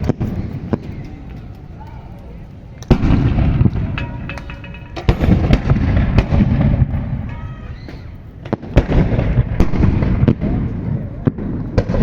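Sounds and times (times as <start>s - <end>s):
fireworks exploding: 0.0s - 1.8s, 2.8s - 12.0s
fireworks crackle: 0.0s - 12.0s.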